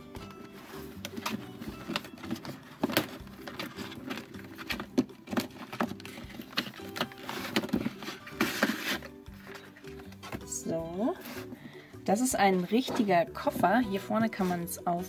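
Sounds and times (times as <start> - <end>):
cardboard scraping on plastic: 0.2 - 11.6, 12.5 - 15.0.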